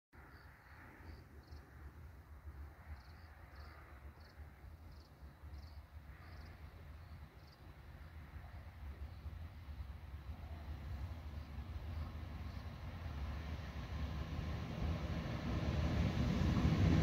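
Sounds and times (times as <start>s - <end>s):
crickets chirping: 0.2s - 16.8s.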